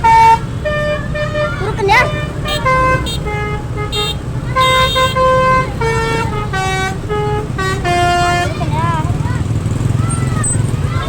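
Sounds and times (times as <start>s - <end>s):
engine rumble: 0.0s - 11.0s
melodic multi-tone vehicle horn: 0.0s - 11.0s.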